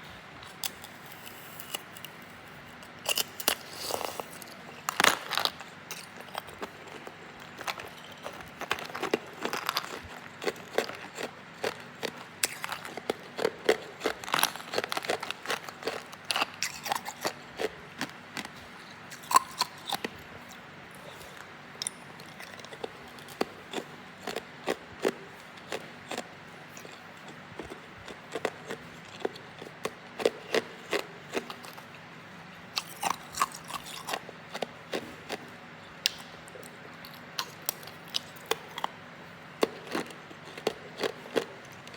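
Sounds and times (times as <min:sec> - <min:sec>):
ice being chewed: 0:00.5 - 0:32.0, 0:32.7 - 0:35.5, 0:36.5 - 0:41.9.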